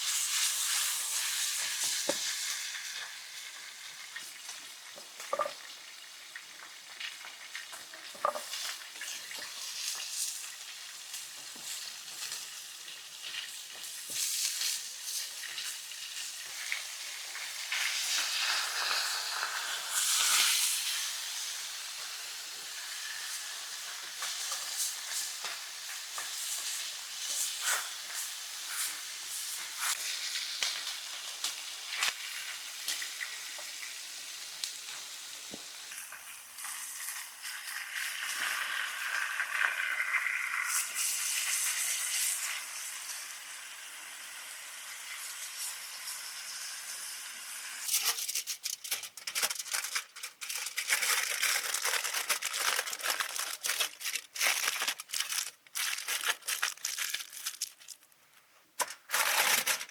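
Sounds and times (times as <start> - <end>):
food sizzling over fire: 0.0 - 59.9.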